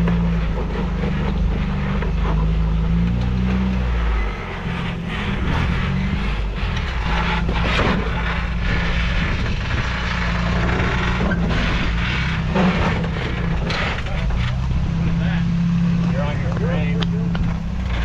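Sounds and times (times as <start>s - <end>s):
tires crunching and scraping rock: 0.0s - 18.0s
truck engine at low revs: 0.0s - 18.0s.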